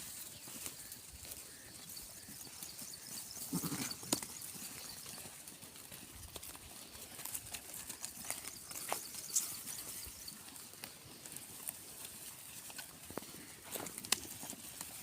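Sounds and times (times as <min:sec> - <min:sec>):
horse hoof steps: 0:00.0 - 0:15.0.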